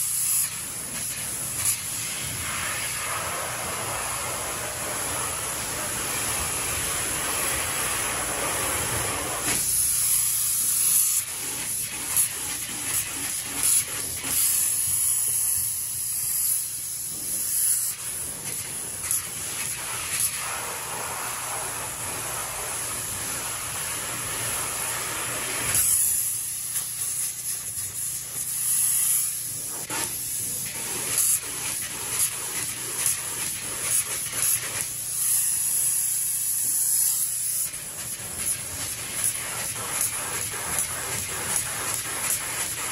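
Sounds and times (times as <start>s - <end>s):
spray foam gun hissing: 0.0s - 42.9s.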